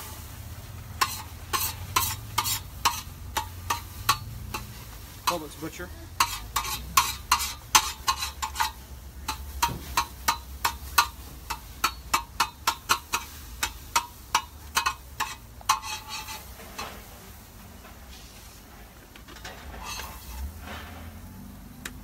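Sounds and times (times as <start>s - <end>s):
metal spatula scraping in a pan: 0.0s - 21.8s.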